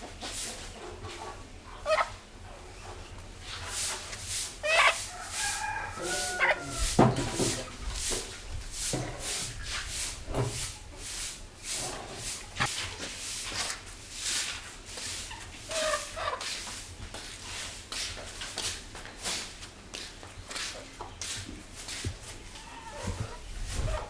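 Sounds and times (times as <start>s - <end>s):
broom sweeping the ground: 0.0s - 1.4s, 3.4s - 24.0s.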